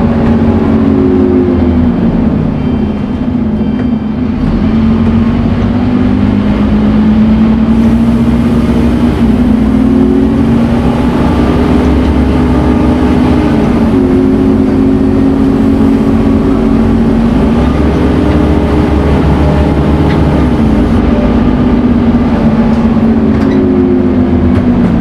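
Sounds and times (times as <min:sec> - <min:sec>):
bus diesel engine whining: 0:00.0 - 0:25.0.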